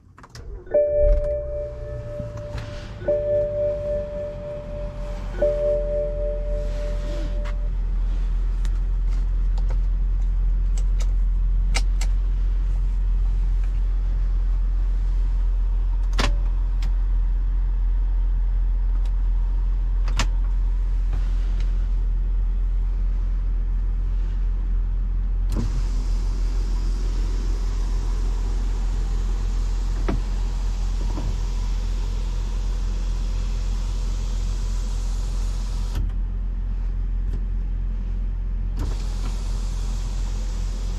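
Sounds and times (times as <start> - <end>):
road noise: 0.0 - 36.0
car engine rumble: 0.0 - 40.9.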